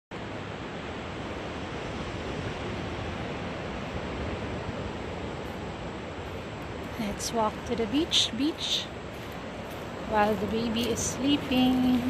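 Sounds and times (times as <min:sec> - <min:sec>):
ocean surf on a beach: 0:00.1 - 0:12.0
wind: 0:00.1 - 0:12.0.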